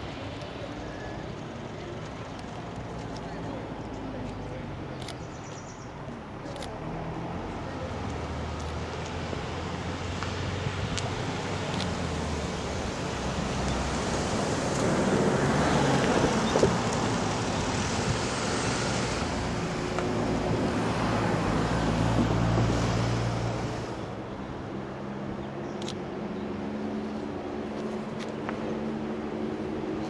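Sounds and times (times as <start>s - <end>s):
cars driving past: 0.0s - 30.0s.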